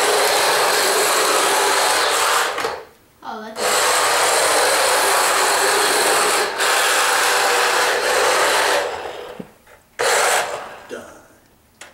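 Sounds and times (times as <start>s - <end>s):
toy car tyres scrubbing on hard surface: 0.0s - 2.8s, 3.6s - 10.9s.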